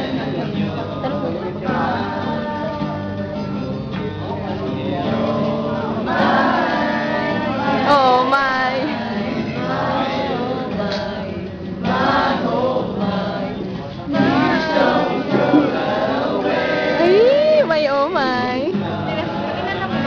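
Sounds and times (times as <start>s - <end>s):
guitar: 0.0s - 20.0s
young men singing in chorus: 0.0s - 20.0s.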